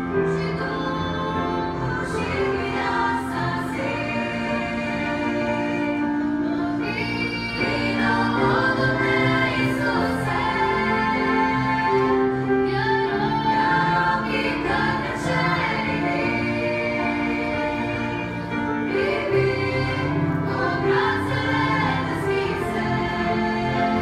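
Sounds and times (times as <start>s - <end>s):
choir singing: 0.0s - 24.0s
piano: 0.0s - 24.0s.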